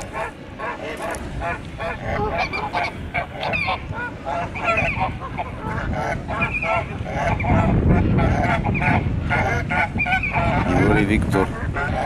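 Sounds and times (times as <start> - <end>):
poultry calling: 0.0 - 12.0.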